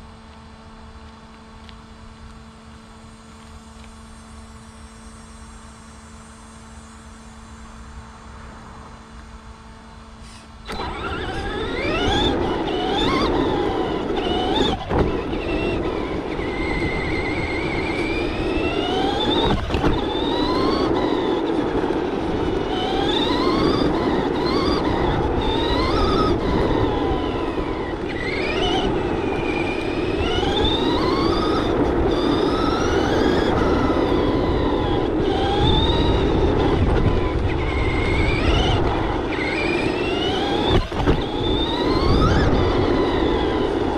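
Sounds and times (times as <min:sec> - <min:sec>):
electric motor whining: 0:00.0 - 0:43.9
small tyres rumbling on pavement: 0:00.0 - 0:43.9.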